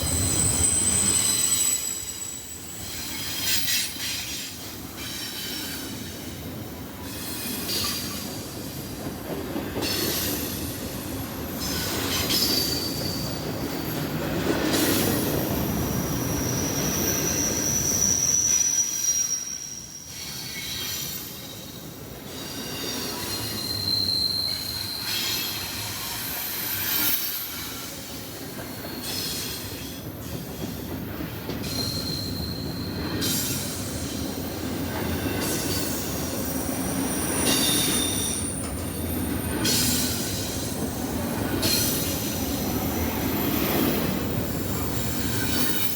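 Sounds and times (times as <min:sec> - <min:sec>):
freight train cars rumbling: 0:00.0 - 0:45.9
train wheel squeals: 0:00.0 - 0:45.9.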